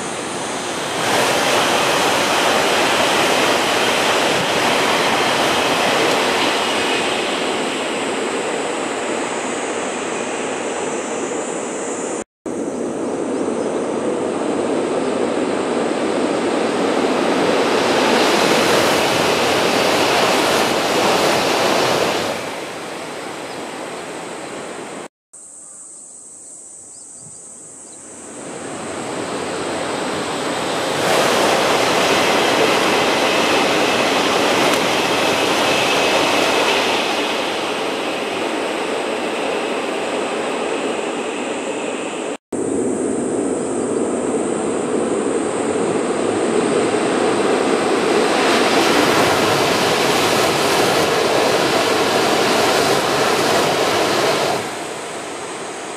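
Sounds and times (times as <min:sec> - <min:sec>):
high-speed trains passing: 0:00.0 - 0:25.1, 0:28.0 - 0:55.9.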